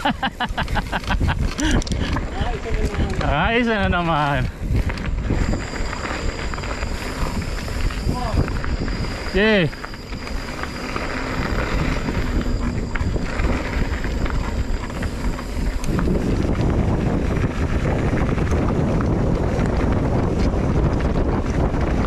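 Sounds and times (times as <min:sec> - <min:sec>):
bike rattling: 0:00.0 - 0:22.0
bike tyres on dirt trail: 0:00.0 - 0:22.0
wind buffeting microphone: 0:00.0 - 0:22.0.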